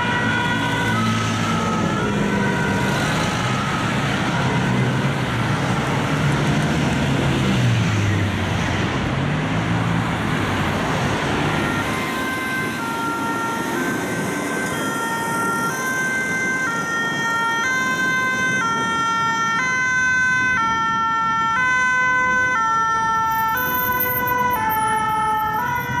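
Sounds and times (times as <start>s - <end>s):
two-tone emergency siren: 0.0s - 9.0s, 9.7s - 26.0s
city traffic engines: 0.0s - 26.0s.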